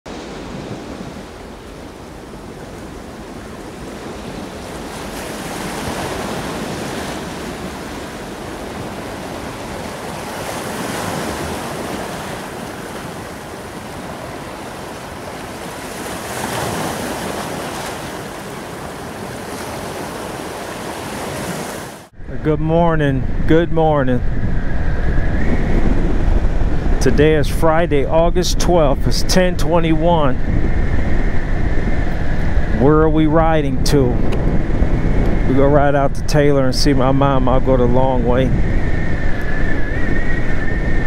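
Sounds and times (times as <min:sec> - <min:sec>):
waves washing in: 0:00.1 - 0:41.0.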